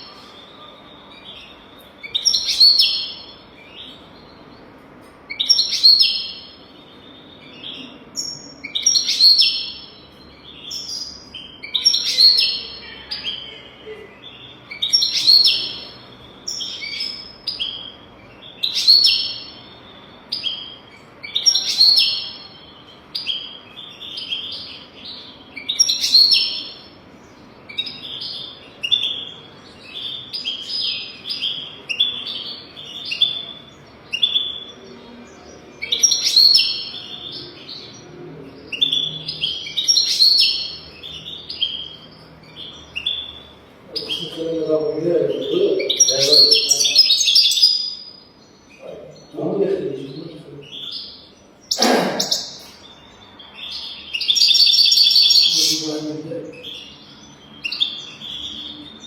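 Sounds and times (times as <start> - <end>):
goldfinch twittering song: 5.3 - 59.0.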